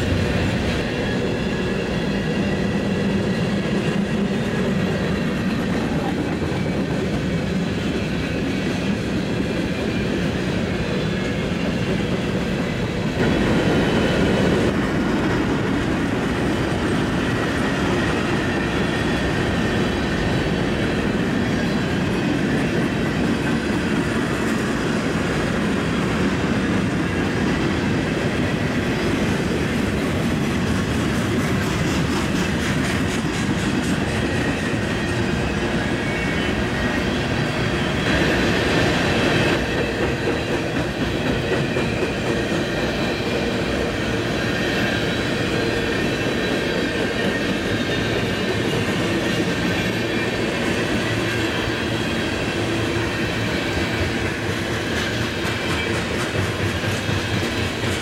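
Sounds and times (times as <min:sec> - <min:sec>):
freight train rolling past: 0:00.0 - 0:58.0
steel wheels on rails: 0:00.0 - 0:58.0.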